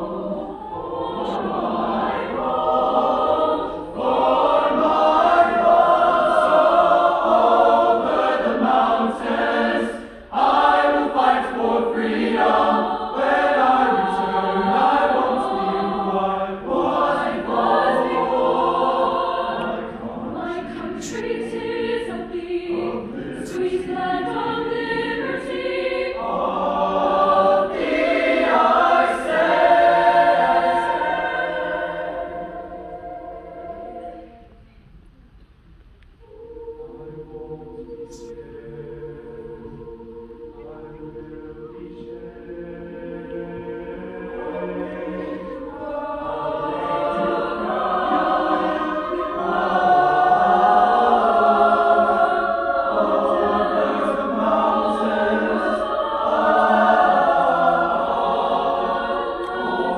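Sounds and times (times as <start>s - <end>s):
mixed choir singing: 0.0s - 34.6s, 36.2s - 59.9s.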